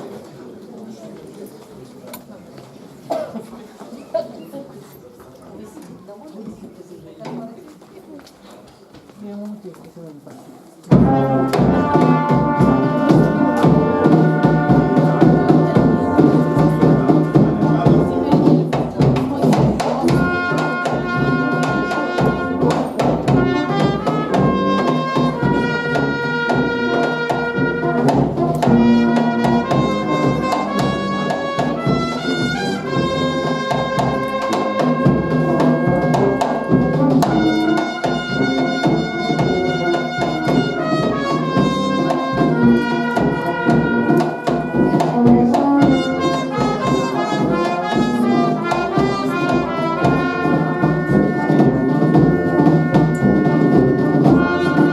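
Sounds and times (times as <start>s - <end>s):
percussion: 10.8s - 54.9s
trumpets playing a melody: 10.9s - 54.9s.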